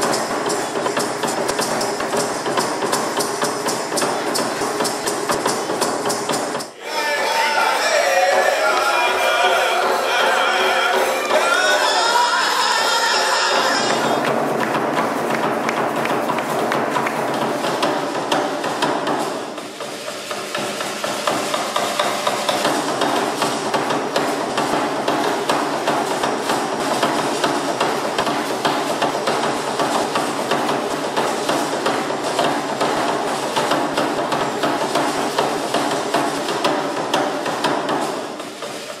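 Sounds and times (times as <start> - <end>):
stamping steps: 0.0 - 6.8, 13.5 - 39.0.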